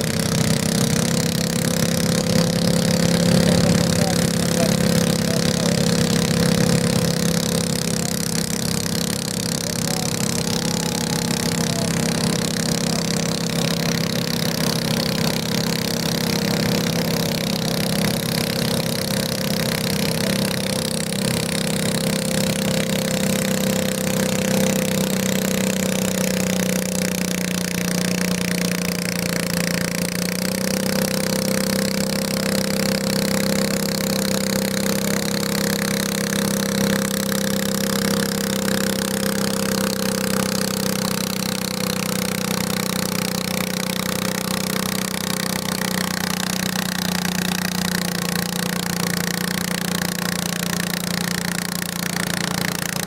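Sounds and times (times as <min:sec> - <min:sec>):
garden tractor engine running: 0:00.0 - 0:53.0.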